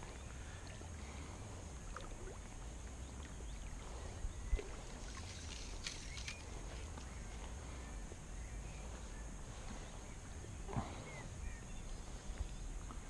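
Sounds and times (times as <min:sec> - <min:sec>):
light water movement: 0:00.0 - 0:13.0
wind rumble on microphone: 0:00.0 - 0:13.0.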